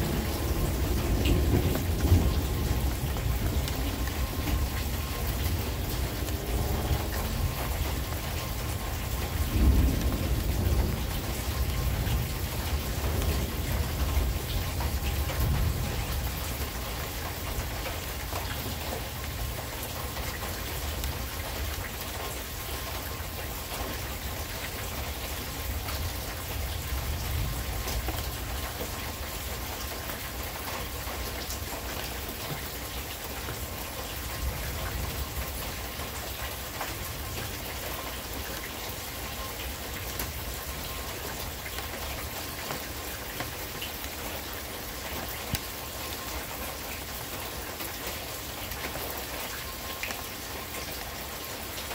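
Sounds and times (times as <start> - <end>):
low rumble of thunder: 0.0 - 44.1
steady rain falling: 0.0 - 51.9.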